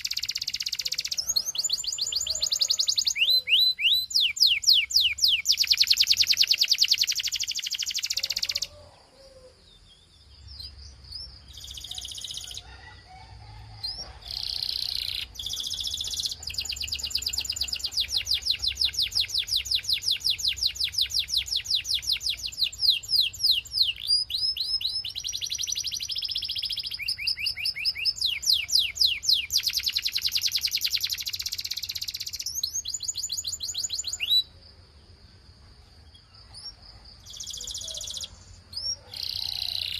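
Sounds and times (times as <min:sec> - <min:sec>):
canary singing trills: 0:00.0 - 0:34.7, 0:36.0 - 0:39.9.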